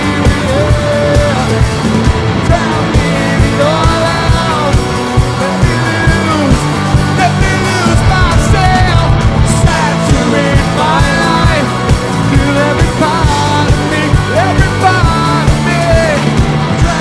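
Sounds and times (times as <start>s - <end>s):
male vocal singing: 0.0s - 1.6s, 2.4s - 17.0s
drum beat: 0.0s - 17.0s
rock band playing: 0.0s - 17.0s.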